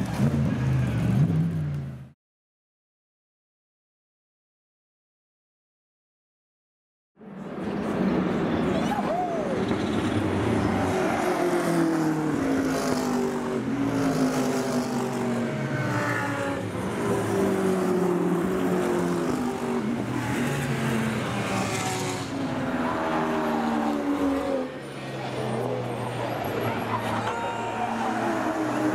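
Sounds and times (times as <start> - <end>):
race car engines: 0.0 - 2.2, 7.2 - 28.9.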